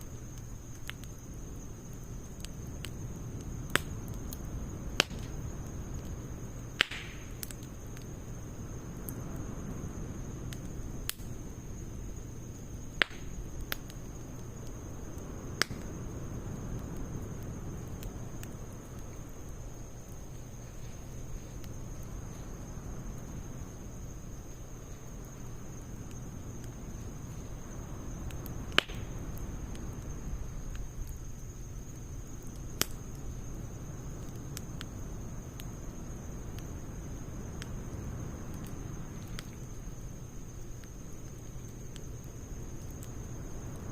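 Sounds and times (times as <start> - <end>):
firewood burning rush: 0.0 - 43.9
sharp crackling pops: 0.0 - 43.9.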